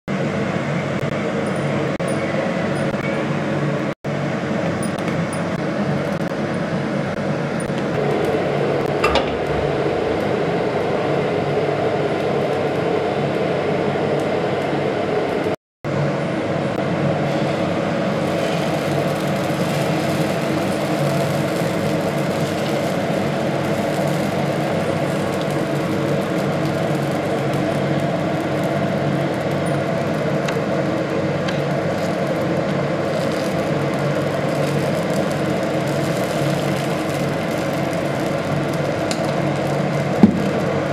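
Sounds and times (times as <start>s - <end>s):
steady mechanical hum: 0.1s - 40.9s.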